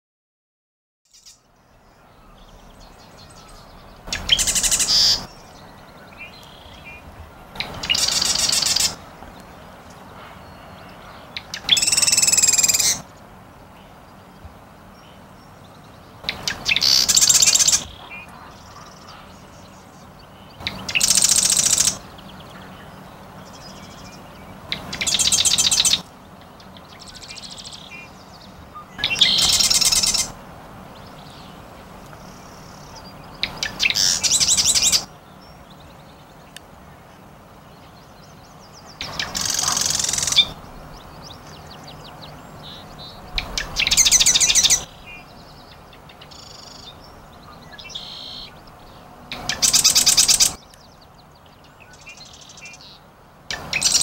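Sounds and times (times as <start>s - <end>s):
wren singing rapid trills: 1.1s - 54.0s.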